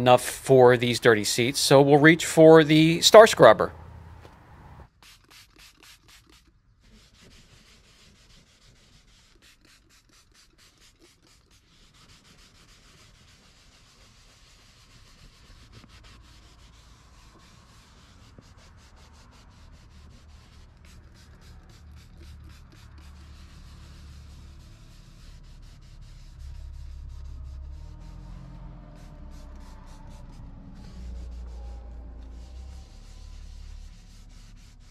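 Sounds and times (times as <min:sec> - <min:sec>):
foam pad scrubbing leather seat: 0:05.1 - 0:34.9.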